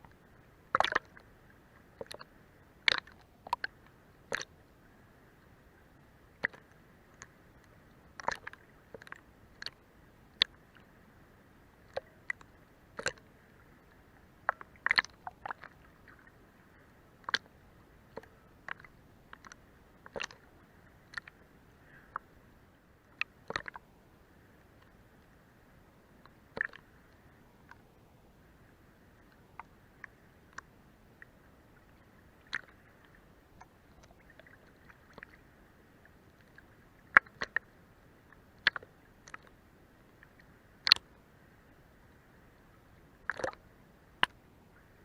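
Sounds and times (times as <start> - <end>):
water lapping against boat hull: 0.0 - 4.6, 5.2 - 22.4, 23.0 - 24.0, 26.2 - 45.0
faint steady wash: 0.0 - 45.0.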